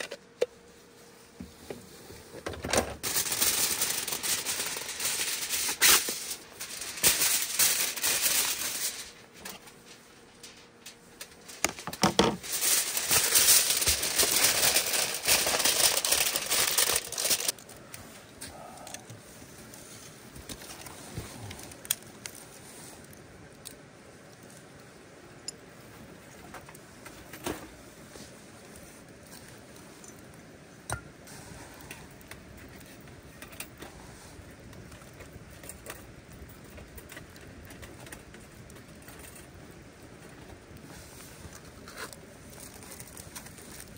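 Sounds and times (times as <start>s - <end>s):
wood fire burning: 0.0s - 43.9s
aluminium foil crinkling: 2.2s - 24.9s, 31.3s - 43.9s
fire popping: 3.0s - 43.9s.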